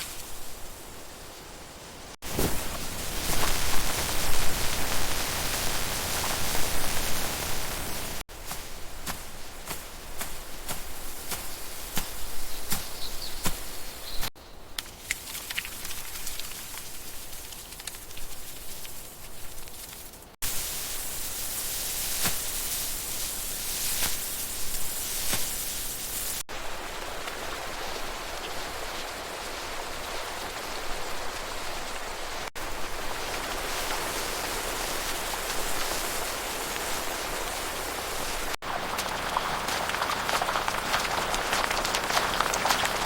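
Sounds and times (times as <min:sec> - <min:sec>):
steady outdoor hiss: 0:00.0 - 0:43.0.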